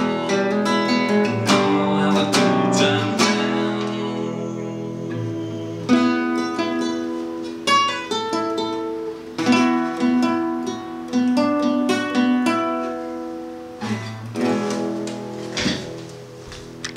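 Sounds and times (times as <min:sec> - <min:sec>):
classical guitar fingerpicked: 0:00.0 - 0:16.9.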